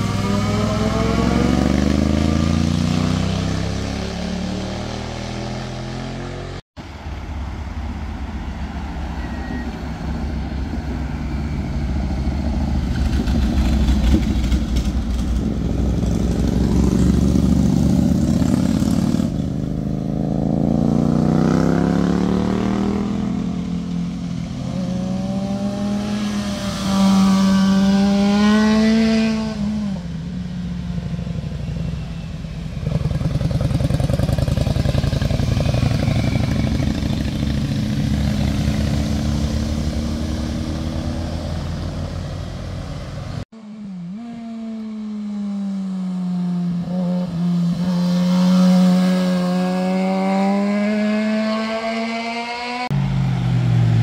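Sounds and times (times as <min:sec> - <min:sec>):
motorcycles passing: 0:00.0 - 0:54.0.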